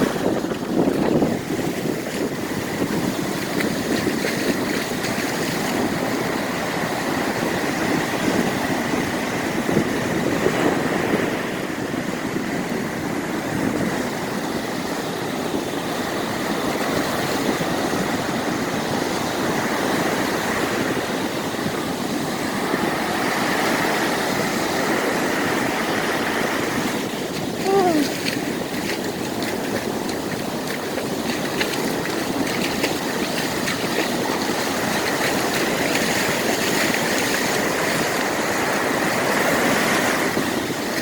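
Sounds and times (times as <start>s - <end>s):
heavy waves breaking: 0.0s - 41.0s
strong wind: 0.0s - 41.0s.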